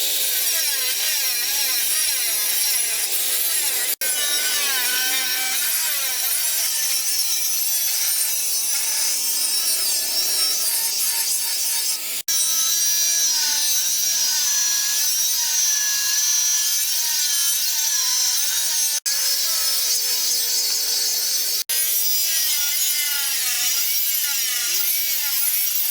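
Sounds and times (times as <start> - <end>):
power tool grinding steel: 0.0 - 25.9.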